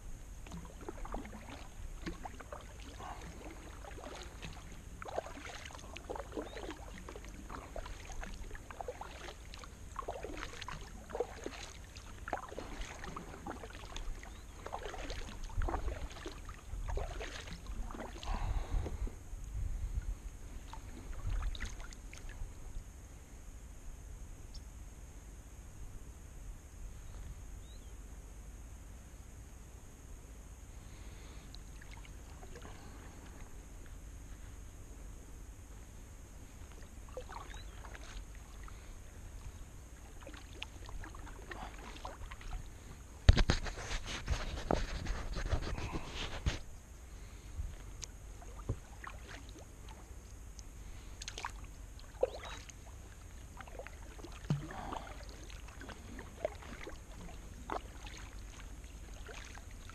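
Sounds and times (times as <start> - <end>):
kayak paddle splashing: 0.0 - 19.2, 20.4 - 22.6, 30.9 - 34.5, 36.3 - 59.9
faint water sounds: 0.0 - 59.9.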